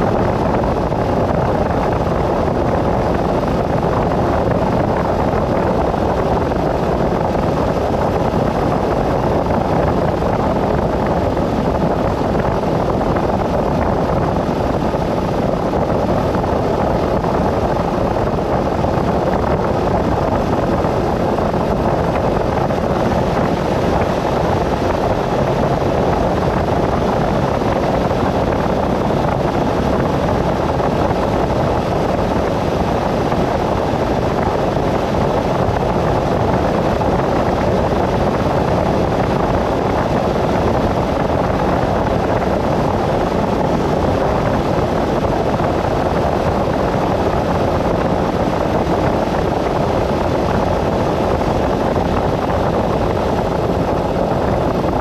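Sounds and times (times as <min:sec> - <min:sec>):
road and wind noise from vehicle: 0:00.0 - 0:55.0.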